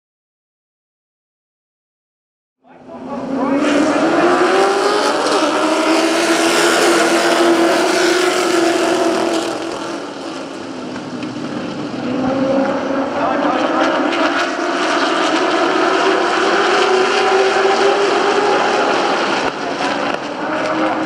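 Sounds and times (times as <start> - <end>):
race car engines at full throttle: 2.6 - 21.0.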